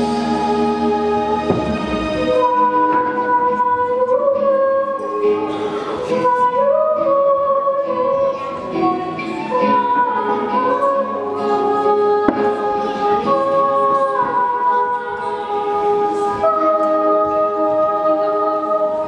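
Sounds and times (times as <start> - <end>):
girls singing in harmony: 0.0 - 19.0.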